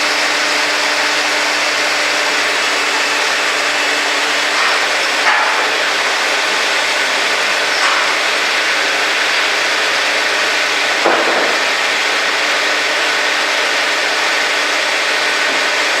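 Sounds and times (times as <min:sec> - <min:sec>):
band sawmill running: 0:00.0 - 0:16.0.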